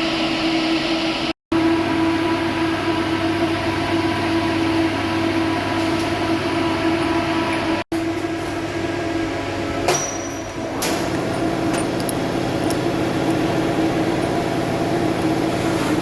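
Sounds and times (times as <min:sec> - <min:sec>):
workshop machinery humming: 0:00.0 - 0:16.0.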